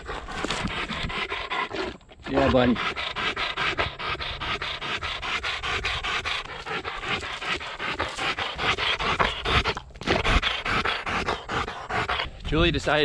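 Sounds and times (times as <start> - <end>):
dog panting hard: 0.0 - 13.0.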